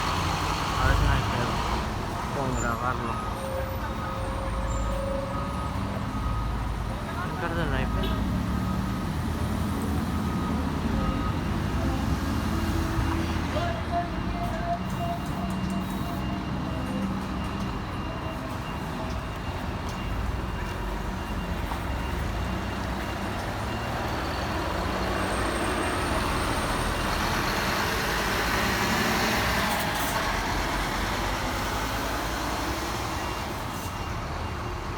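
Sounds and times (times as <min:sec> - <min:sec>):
bus diesel engine pulling out: 0:00.0 - 0:34.9.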